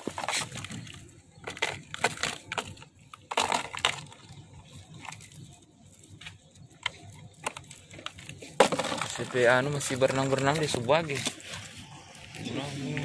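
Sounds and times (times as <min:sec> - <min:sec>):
plastic bottle crackling: 0:00.0 - 0:12.5.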